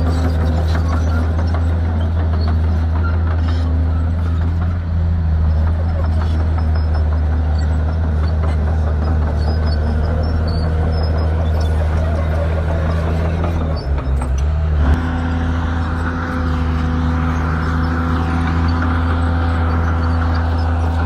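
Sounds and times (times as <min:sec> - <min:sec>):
bulldozer diesel engine droning: 0:00.0 - 0:21.0.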